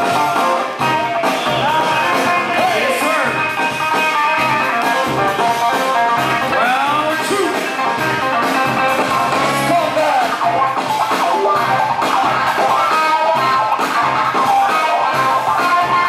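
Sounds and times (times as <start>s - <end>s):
guitar music with steady beat: 0.0s - 16.0s.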